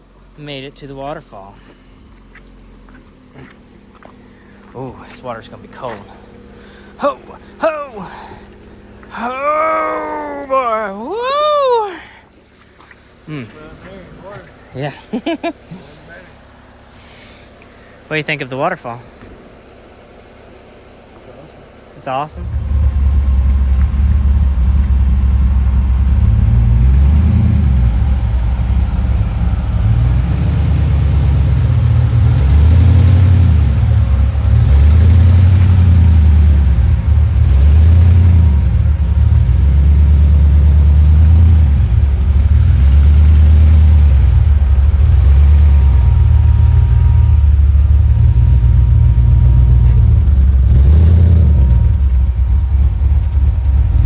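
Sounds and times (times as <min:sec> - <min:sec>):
engine revving at low revs: 0:00.0 - 0:54.0.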